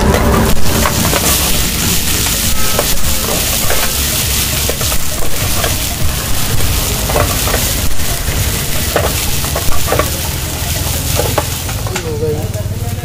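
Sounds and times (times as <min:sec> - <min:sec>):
low rumble: 0:00.0 - 0:11.9
ladle scraping and knocking pan: 0:00.0 - 0:12.0
chicken sizzling in a wok: 0:00.0 - 0:13.0.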